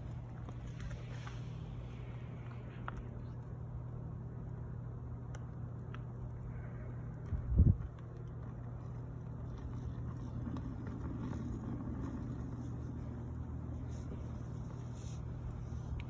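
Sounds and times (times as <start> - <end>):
furnace roaring: 0.0 - 16.0.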